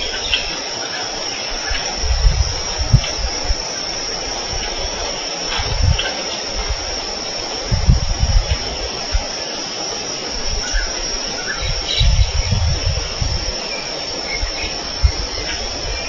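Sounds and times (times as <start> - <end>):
insects droning: 0.0 - 16.0
low rumbling: 1.8 - 9.4, 10.4 - 16.0.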